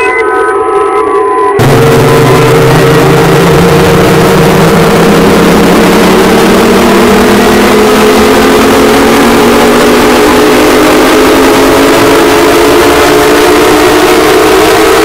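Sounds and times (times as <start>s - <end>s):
distorted alarm tones rising: 0.0s - 15.0s.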